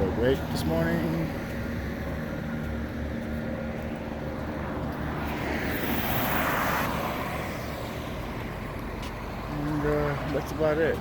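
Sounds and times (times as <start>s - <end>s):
low rumble of traffic: 0.0s - 11.0s
vehicle passing: 0.0s - 11.0s.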